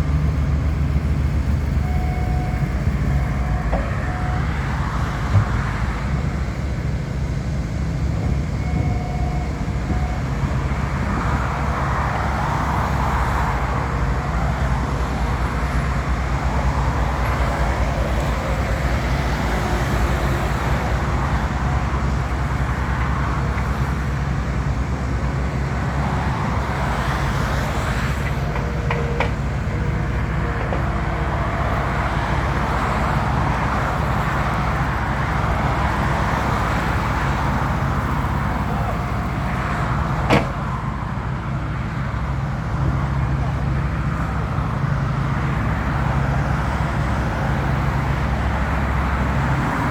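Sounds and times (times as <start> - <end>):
loader engine droning: 0.0 - 49.9
paving machinery noise: 0.0 - 49.9.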